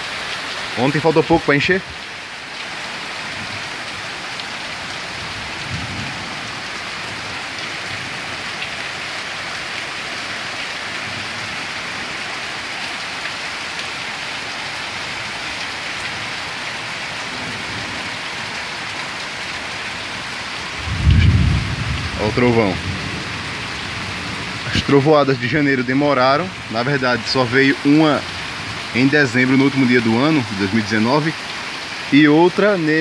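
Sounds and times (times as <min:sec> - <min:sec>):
heavy rain pouring on foliage: 0:00.0 - 0:33.0.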